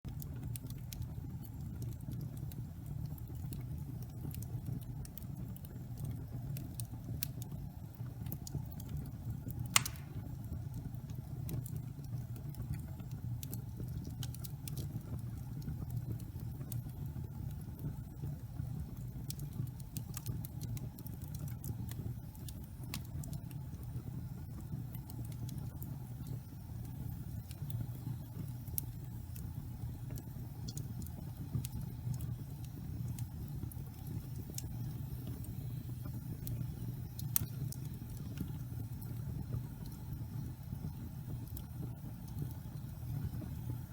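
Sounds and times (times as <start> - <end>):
fire crackling and popping: 0.1 - 43.9
fire rumbling: 0.1 - 43.9.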